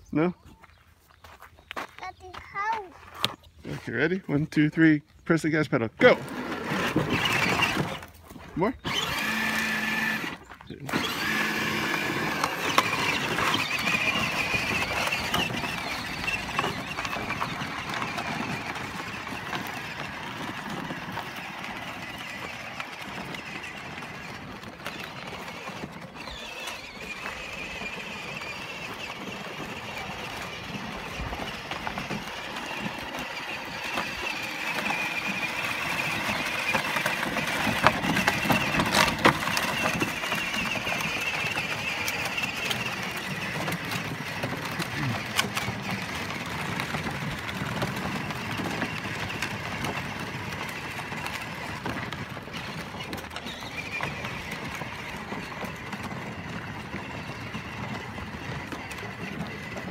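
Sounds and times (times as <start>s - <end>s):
plastic wheels crunching over dirt: 0.0s - 59.9s
toy electric motor whining: 6.0s - 59.9s.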